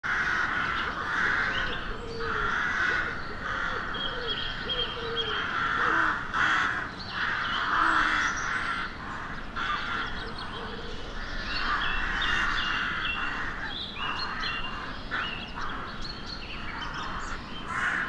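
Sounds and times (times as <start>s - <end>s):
crows cawing: 0.1s - 10.2s, 11.5s - 16.0s, 16.7s - 18.0s.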